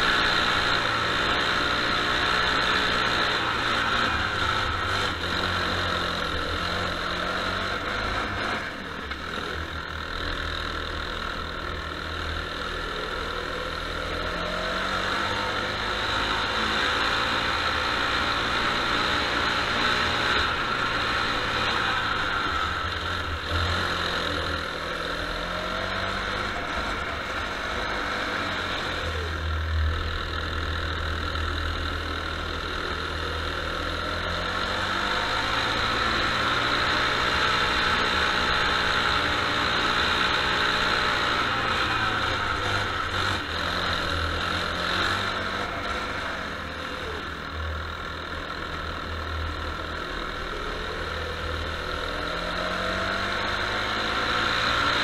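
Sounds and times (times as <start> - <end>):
go-kart engine: 0.0 - 55.0.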